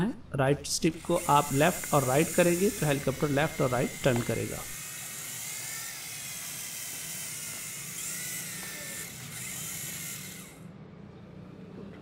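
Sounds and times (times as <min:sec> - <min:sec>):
toy helicopter motors whirring: 0:00.8 - 0:10.6.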